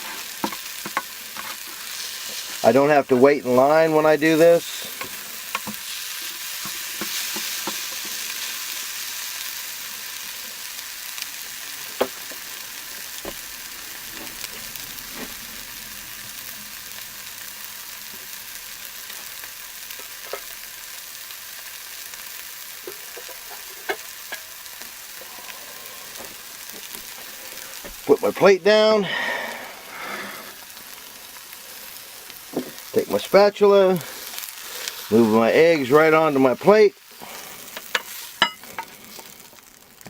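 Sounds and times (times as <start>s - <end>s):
eggs sizzling in a skillet: 0.0s - 40.0s
sharp frying pops: 0.0s - 40.0s.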